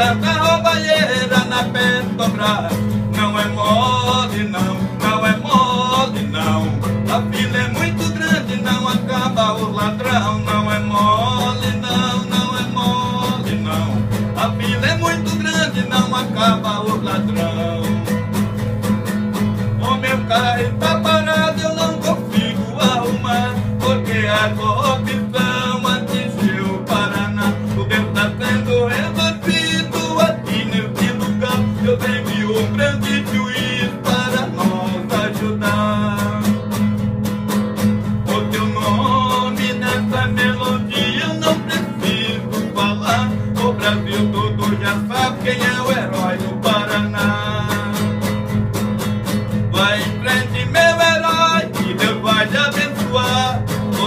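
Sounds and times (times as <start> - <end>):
man singing: 0.0 - 37.0, 38.0 - 48.6, 49.5 - 54.0
acoustic guitar strumming: 0.0 - 54.0.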